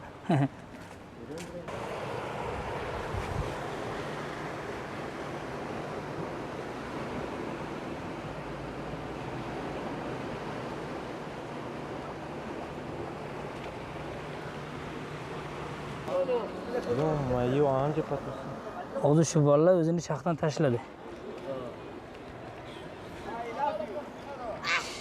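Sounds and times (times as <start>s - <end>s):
sea waves: 0.0s - 25.0s
wind: 0.0s - 25.0s.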